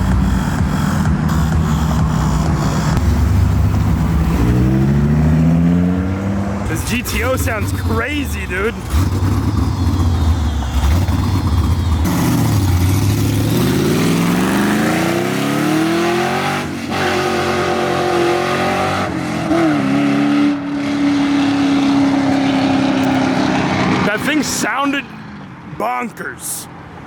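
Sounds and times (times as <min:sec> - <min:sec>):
car engine accelerating: 0:00.0 - 0:25.4.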